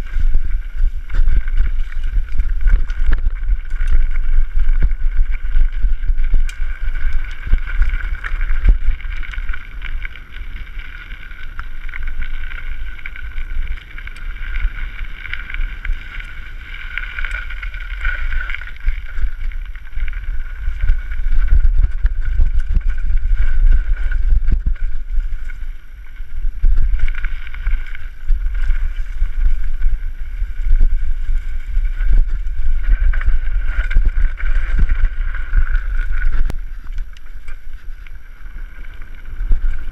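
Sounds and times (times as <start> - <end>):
bike whir: 0.0 - 39.9
wind buffeting microphone: 0.0 - 39.9.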